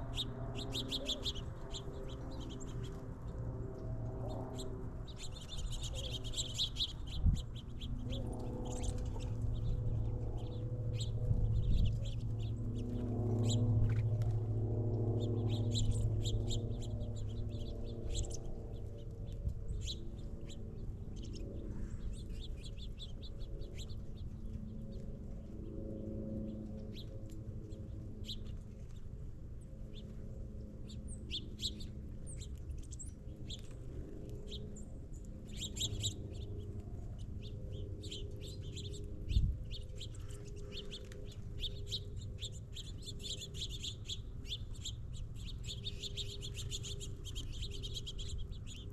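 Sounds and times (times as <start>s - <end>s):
low steady hum: 0.0s - 48.9s
songbirds chirping: 0.0s - 48.9s.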